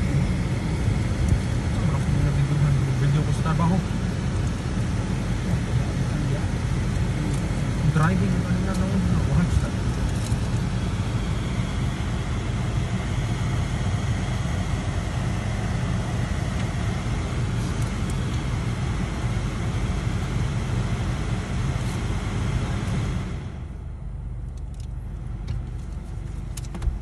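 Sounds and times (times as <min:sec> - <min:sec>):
car cabin rumble and hiss: 0:00.0 - 0:27.0.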